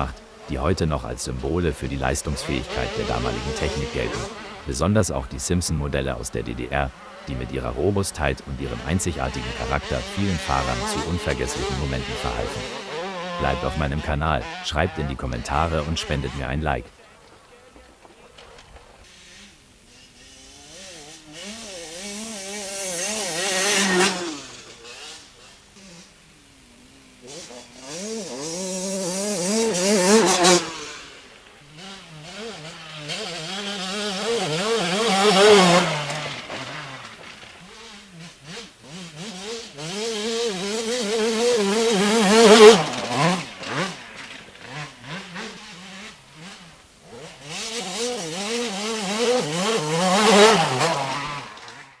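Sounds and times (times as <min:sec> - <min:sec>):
dirt bikes revving past: 0:00.0 - 0:52.0.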